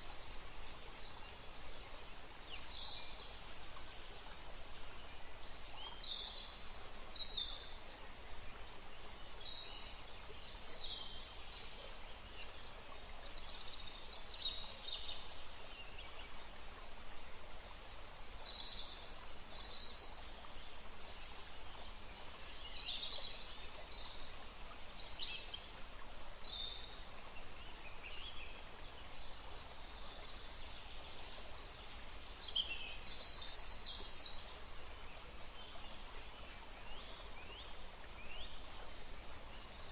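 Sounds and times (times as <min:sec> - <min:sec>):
soft background hiss: 0:00.0 - 0:39.9.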